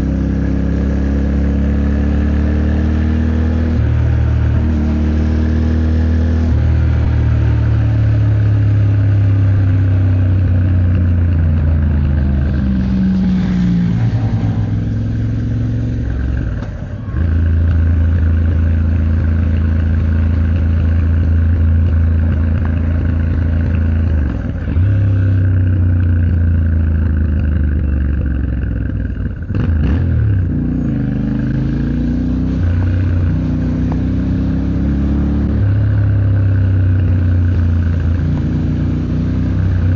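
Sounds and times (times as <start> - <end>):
motorcycle engine revving: 0.0 - 39.9
road noise: 0.0 - 39.9.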